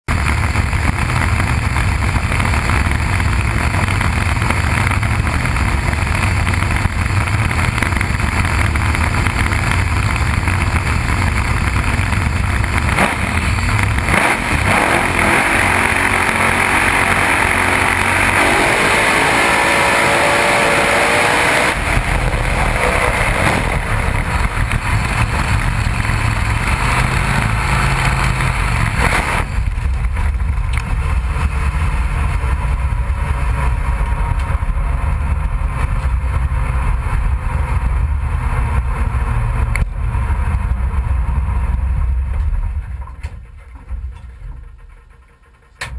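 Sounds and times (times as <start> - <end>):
race car engine rumble: 0.0 - 45.9
harsh rushing with rising tones: 3.3 - 40.4.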